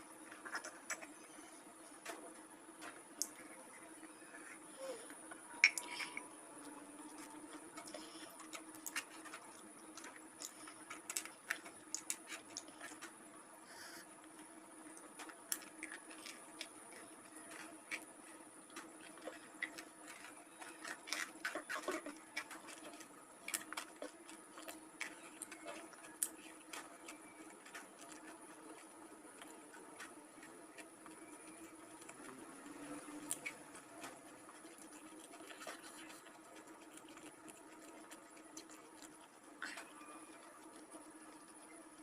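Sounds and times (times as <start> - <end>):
faint steady hum: 0.0 - 42.0
person chewing food: 0.0 - 42.0.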